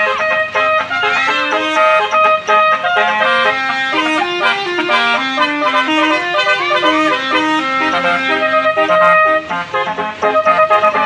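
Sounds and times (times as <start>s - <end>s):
musical horn playing melody: 0.0s - 11.0s.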